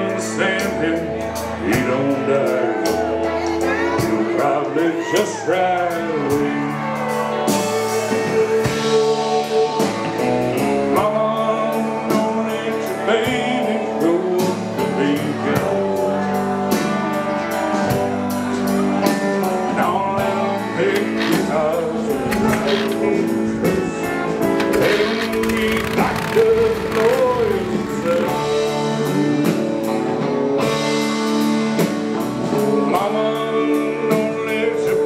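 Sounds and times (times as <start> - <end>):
person singing: 0.0 - 17.6, 19.6 - 30.0, 32.6 - 35.0
guitar: 0.0 - 35.0.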